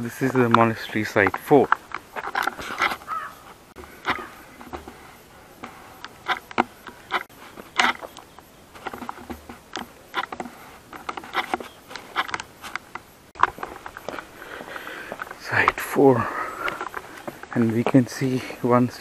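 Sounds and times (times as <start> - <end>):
footsteps crunching on dirt path: 0.0 - 19.0.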